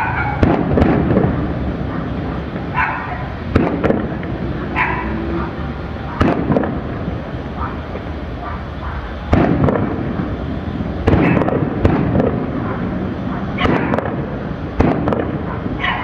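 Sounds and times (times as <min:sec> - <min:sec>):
fireworks bursting with echoing bangs: 0:00.0 - 0:16.0.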